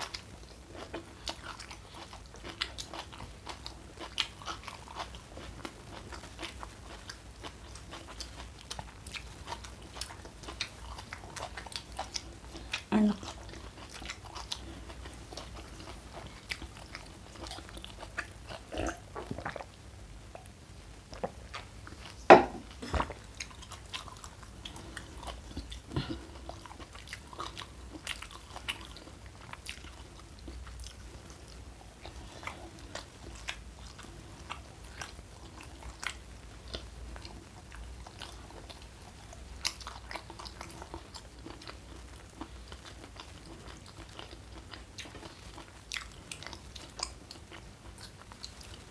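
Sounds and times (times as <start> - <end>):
chewing with crisp crunches: 0.0 - 48.9.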